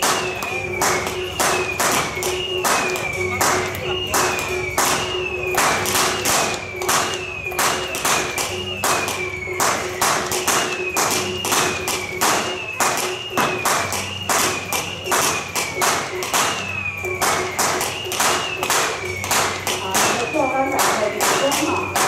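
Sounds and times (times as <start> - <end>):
percussion band fast beat: 0.0 - 22.0.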